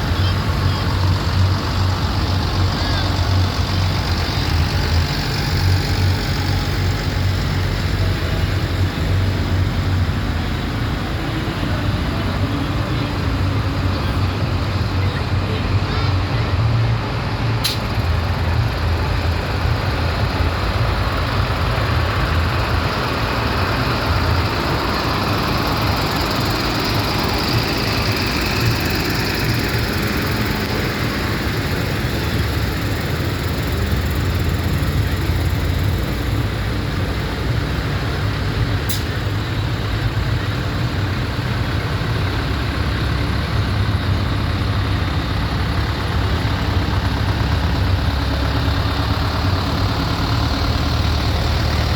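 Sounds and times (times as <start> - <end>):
tractor engines rumbling: 0.0 - 51.9.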